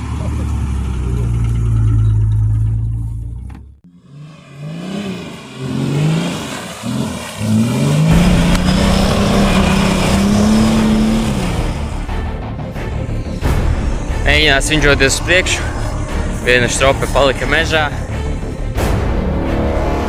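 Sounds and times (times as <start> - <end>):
engine running and revving: 0.0 - 20.0.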